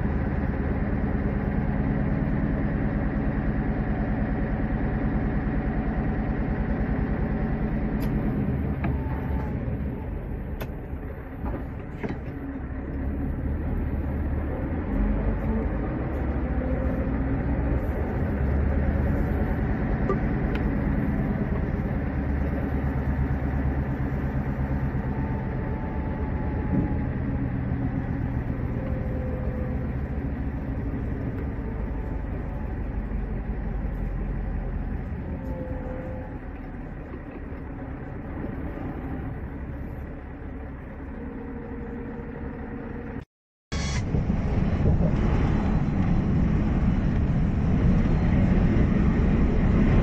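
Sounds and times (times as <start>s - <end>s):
diesel truck engine rumble: 0.0s - 50.0s.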